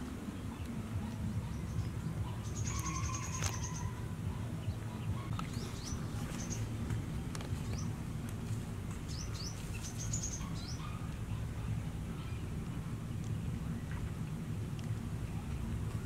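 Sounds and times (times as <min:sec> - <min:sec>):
low background hum: 0:00.0 - 0:16.0
small birds chirping: 0:00.2 - 0:16.0.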